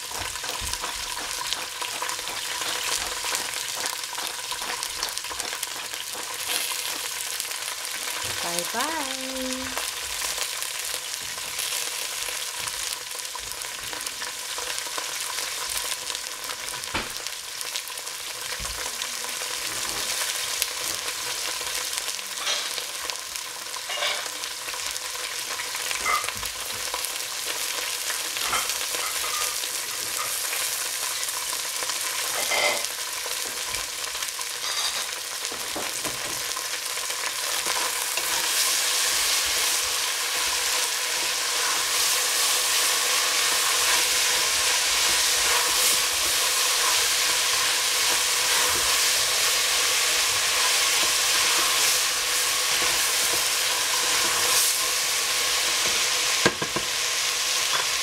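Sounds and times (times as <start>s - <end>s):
beans sizzling in oil: 0.0s - 58.0s.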